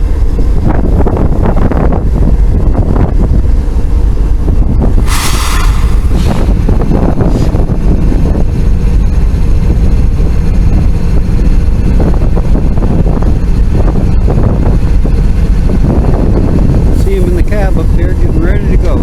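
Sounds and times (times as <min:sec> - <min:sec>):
diesel locomotives rumbling: 0:00.0 - 0:19.0
wind buffeting microphone: 0:00.0 - 0:19.0.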